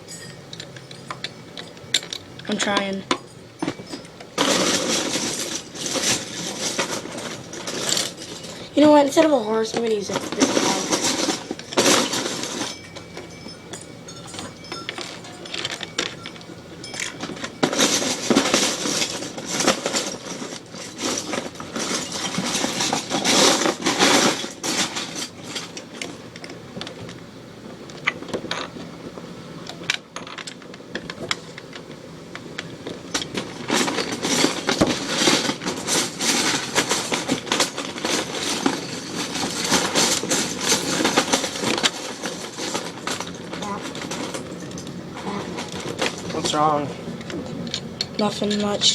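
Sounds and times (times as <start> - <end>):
plastic bricks clattering: 3.6 - 13.4, 14.2 - 27.2, 29.7 - 48.9.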